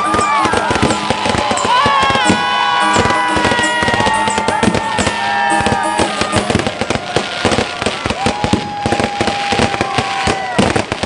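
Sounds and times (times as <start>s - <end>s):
fireworks bursting: 0.0s - 11.0s
loud music: 0.0s - 11.0s.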